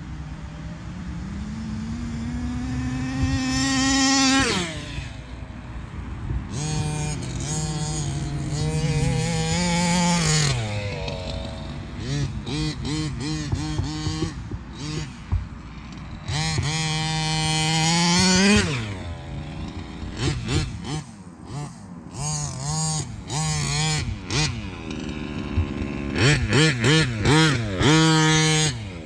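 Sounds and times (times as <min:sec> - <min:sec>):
two-stroke engine revving: 0:00.0 - 0:29.0.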